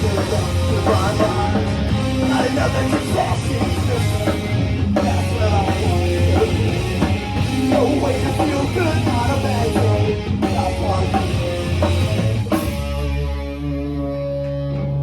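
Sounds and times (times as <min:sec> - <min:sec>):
drum kit: 0:00.0 - 0:13.6
distorted electric guitars: 0:00.0 - 0:15.0.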